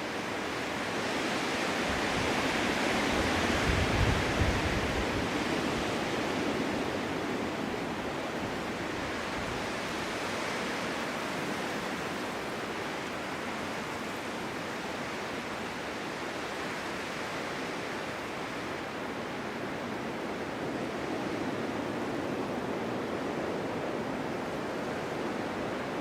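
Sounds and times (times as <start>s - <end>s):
snowstorm wind blowing: 0.0s - 26.0s.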